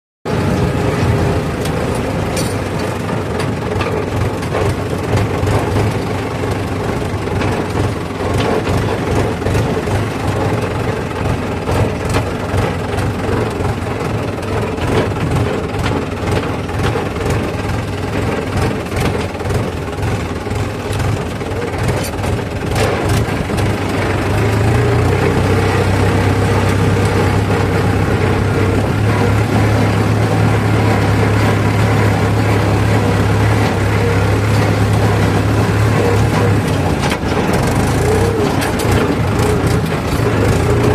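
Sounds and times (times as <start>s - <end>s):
diesel engine running: 0.3s - 40.9s.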